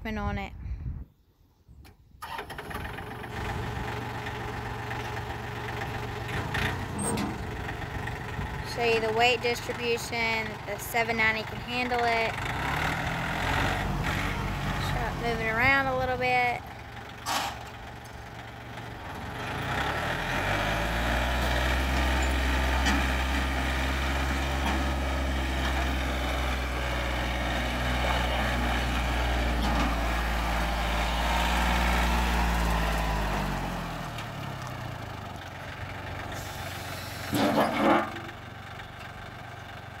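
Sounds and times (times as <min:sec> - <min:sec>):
tractor diesel engine revving: 0:02.2 - 0:40.0.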